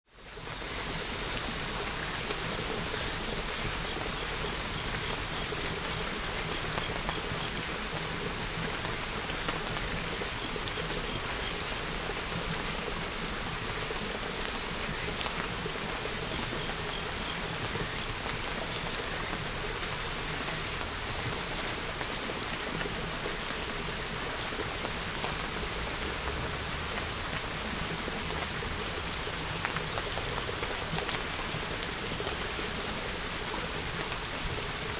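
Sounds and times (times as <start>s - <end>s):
rain hissing: 0.1s - 34.9s.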